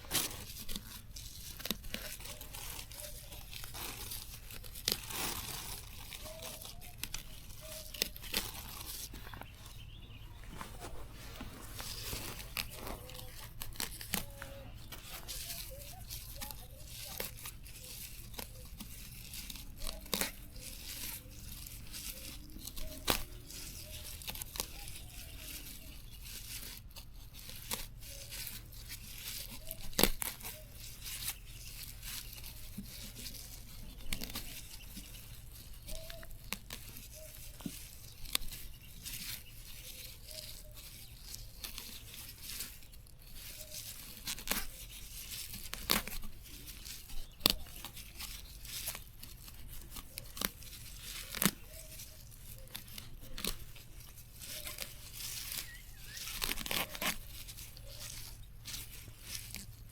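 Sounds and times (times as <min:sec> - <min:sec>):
plants tearing and snapping: 0:00.0 - 0:59.9.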